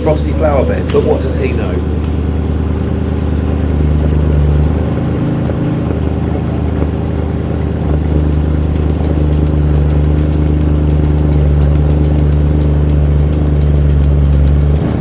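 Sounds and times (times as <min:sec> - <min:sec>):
car engine fast idle: 0:00.0 - 0:15.0.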